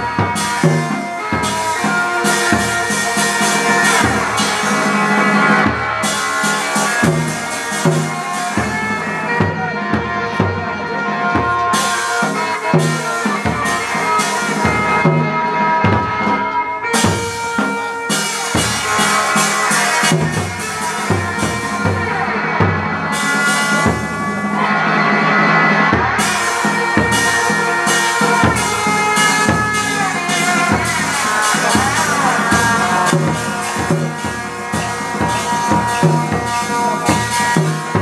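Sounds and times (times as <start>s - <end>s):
piercing reed horn: 0.0s - 38.0s
steady drum beats: 0.0s - 38.0s.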